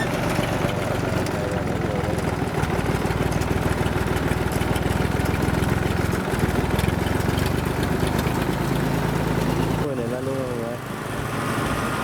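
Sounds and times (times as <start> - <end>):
farm machine engine running: 0.0 - 11.9.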